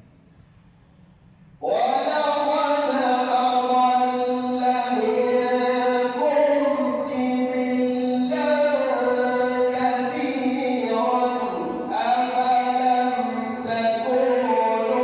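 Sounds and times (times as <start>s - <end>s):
man chanting melodically: 1.6s - 15.0s.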